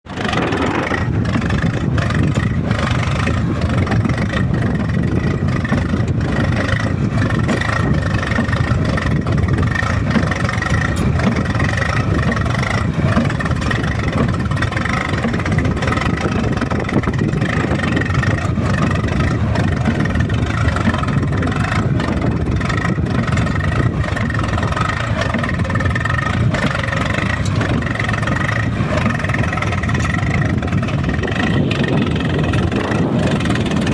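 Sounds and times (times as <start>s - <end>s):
tractor diesel engine rumble: 0.0s - 33.9s.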